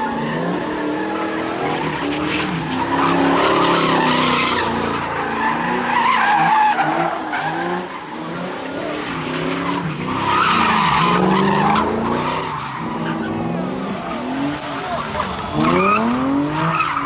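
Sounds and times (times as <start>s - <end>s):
car engine revving: 0.0s - 17.0s
tyres squealing on pavement: 0.0s - 17.0s.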